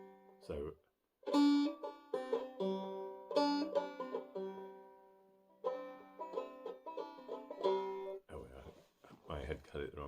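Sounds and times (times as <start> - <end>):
banjo plucked notes: 0.0 - 8.8.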